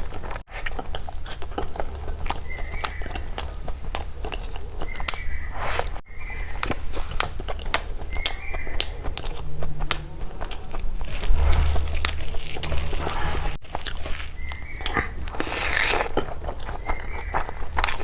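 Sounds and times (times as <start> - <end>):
chewing food: 0.0 - 18.0.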